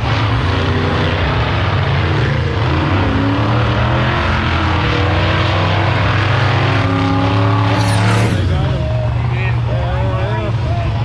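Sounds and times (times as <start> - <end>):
loud truck engine running: 0.0 - 11.0.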